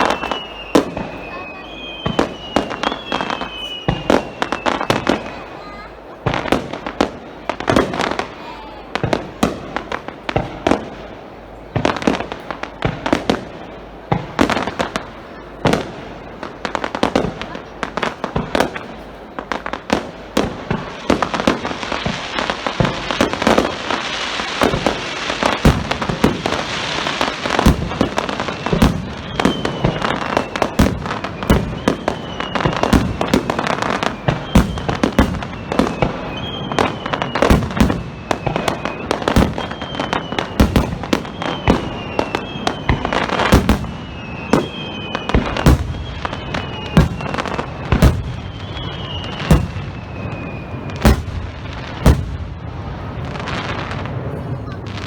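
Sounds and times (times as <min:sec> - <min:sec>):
falling firework whistles: 0:00.0 - 0:11.0, 0:11.8 - 0:55.0
fireworks bangs and booms: 0:00.0 - 0:55.0
fireworks crackling: 0:00.0 - 0:55.0.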